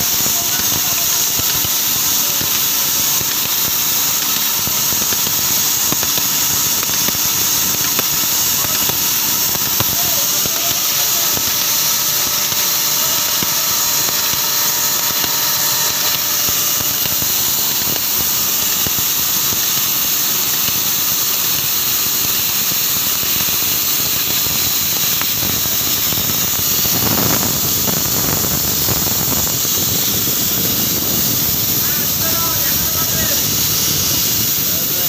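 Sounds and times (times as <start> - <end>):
loud steady hiss: 0.0 - 35.0.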